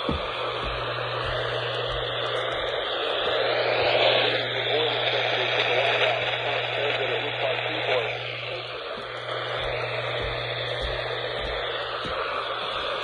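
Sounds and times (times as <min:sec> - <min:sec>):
low steady hum: 0:00.0 - 0:13.0
radio static hiss: 0:00.0 - 0:13.0.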